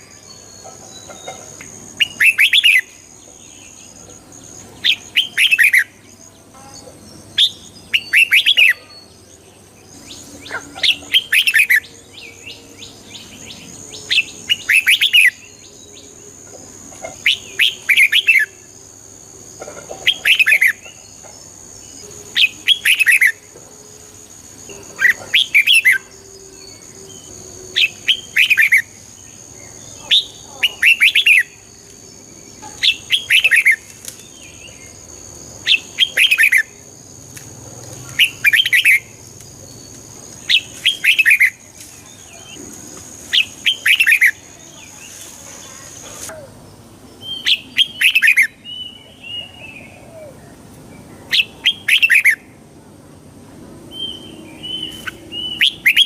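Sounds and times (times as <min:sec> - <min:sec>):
bird warbling song: 0:00.0 - 0:18.7, 0:19.6 - 0:23.6, 0:24.7 - 0:36.8, 0:37.8 - 0:42.7, 0:43.3 - 0:46.5, 0:47.1 - 0:52.5, 0:53.9 - 0:56.0.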